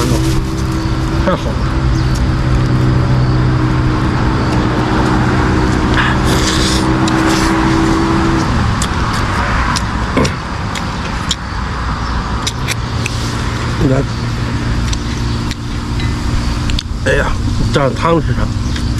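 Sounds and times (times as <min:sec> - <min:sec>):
vehicle engine running: 0:00.0 - 0:18.9.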